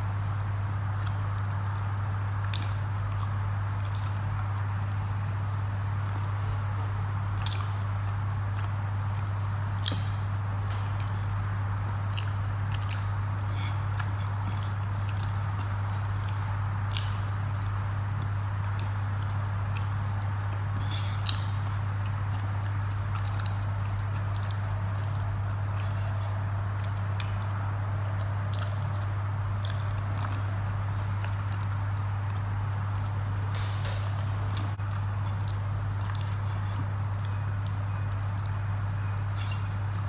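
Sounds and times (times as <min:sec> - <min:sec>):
steady low hum: 0:00.0 - 0:40.0
soft chewing and mouth smacks: 0:00.3 - 0:40.0.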